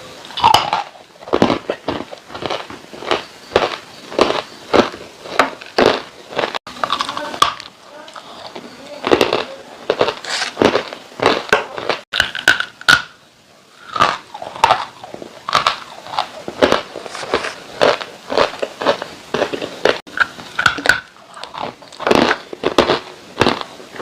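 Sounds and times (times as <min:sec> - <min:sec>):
chewing crunchy clay: 0:00.4 - 0:13.1, 0:13.8 - 0:24.0.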